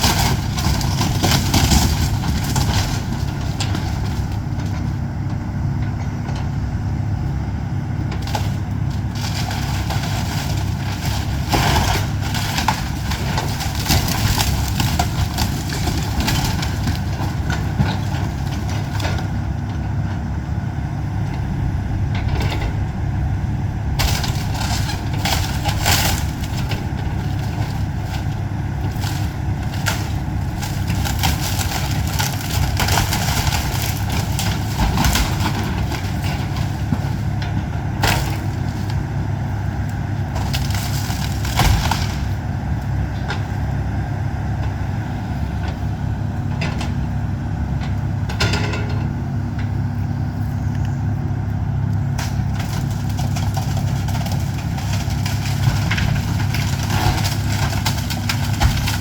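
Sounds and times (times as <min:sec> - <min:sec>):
excavator diesel engine running: 0:00.0 - 0:59.0
wood and debris crunching: 0:00.0 - 0:59.0.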